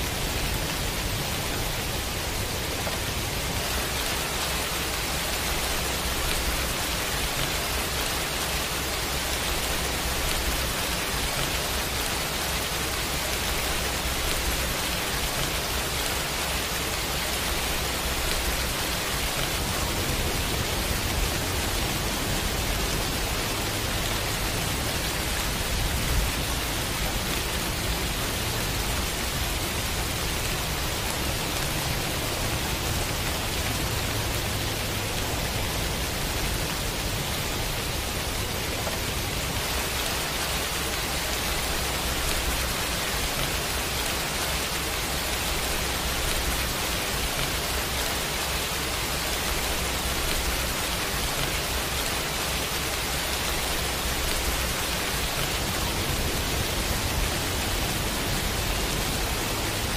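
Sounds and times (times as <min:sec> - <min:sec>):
pouring rain: 0:00.0 - 0:59.9.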